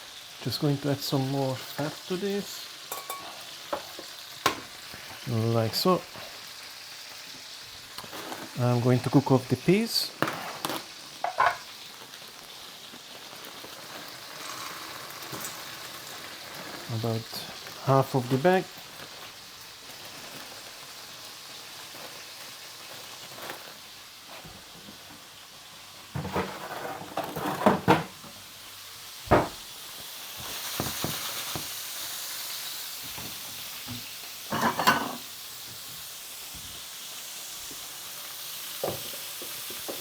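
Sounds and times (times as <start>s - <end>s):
peas sizzling in a pan: 0.0s - 40.0s.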